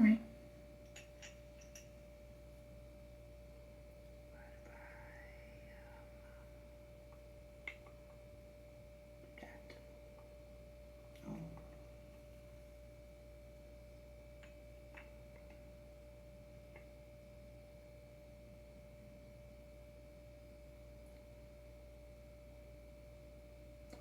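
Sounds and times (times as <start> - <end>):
faint high-pitched hum: 0.0 - 24.0.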